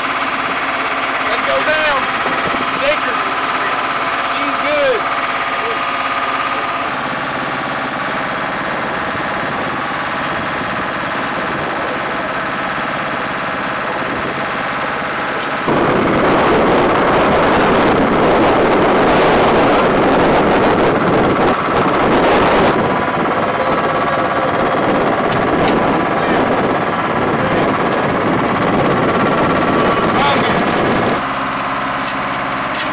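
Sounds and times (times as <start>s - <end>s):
aircraft engines droning: 0.0s - 32.7s.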